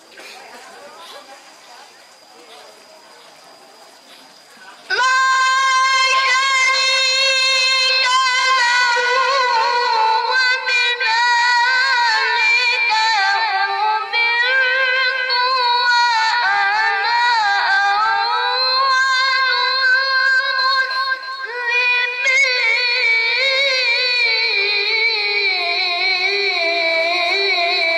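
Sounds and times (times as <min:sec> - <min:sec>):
child reciting melodically: 0:04.9 - 0:27.9.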